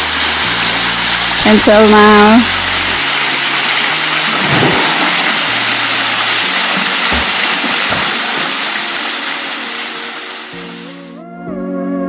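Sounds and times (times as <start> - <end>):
small waterfall rushing: 0.0 - 11.1
soft background music: 0.0 - 12.0.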